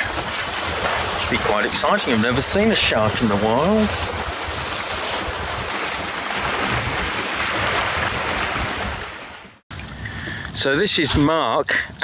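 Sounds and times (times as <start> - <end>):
water rushing along hull: 0.0 - 9.9
wind buffeting microphone: 0.0 - 12.0.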